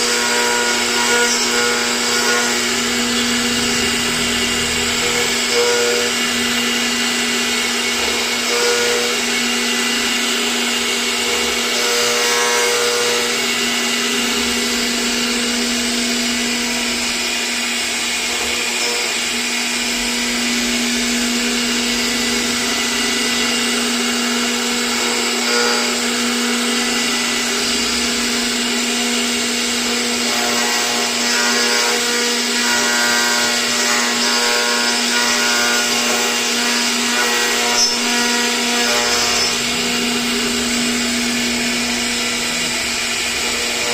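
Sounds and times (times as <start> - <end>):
harsh cutting noise: 0.0 - 43.9
router spindle hum: 0.0 - 43.9.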